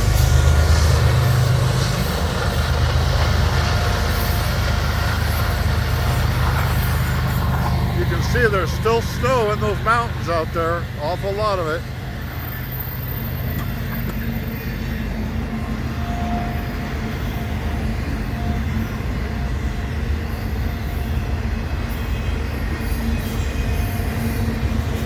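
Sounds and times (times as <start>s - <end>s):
low droning hum: 0.0s - 22.8s
freight train wheels rumbling on rail: 0.0s - 25.0s.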